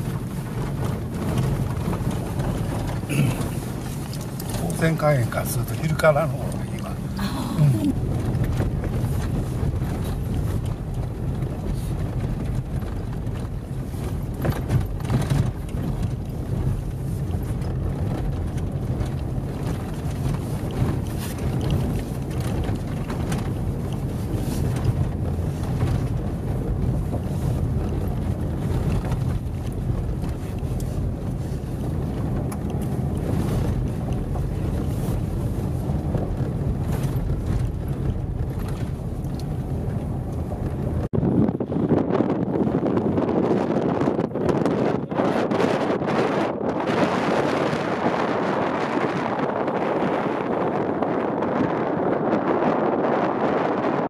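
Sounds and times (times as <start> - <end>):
car knocks and rattles: 0.0 - 44.9
engine and tyres rumbling: 0.0 - 54.0.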